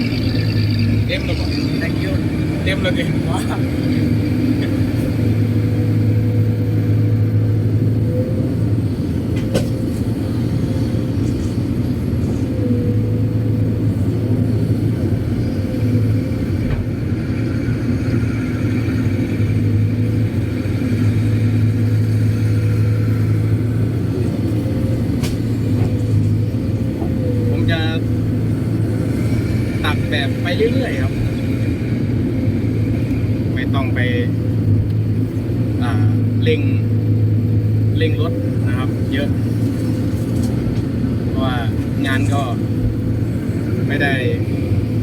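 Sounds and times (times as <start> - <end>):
excavator diesel engine: 0.0 - 45.0
hydraulic whine: 0.0 - 45.0.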